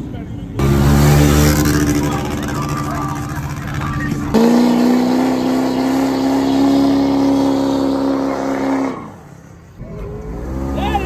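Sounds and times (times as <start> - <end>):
truck engine at high revs: 0.6 - 11.0.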